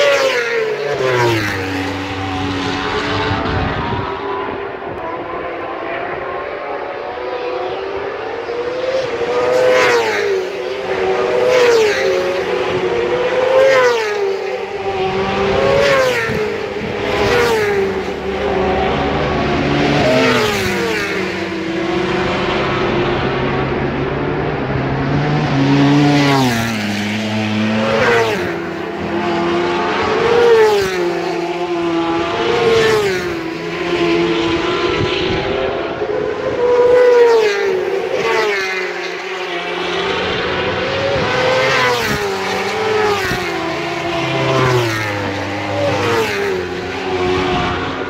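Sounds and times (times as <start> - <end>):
racing motorcycle engines revving: 0.0 - 48.0.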